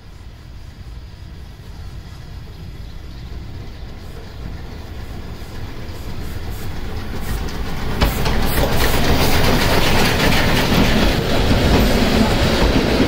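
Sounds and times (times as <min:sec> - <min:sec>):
steam locomotive exhaust beats: 0:00.0 - 0:13.0.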